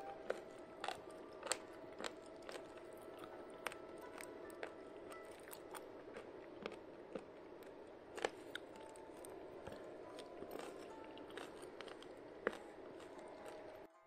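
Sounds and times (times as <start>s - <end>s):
person chewing: 0.0s - 13.9s
low hum: 0.0s - 14.0s.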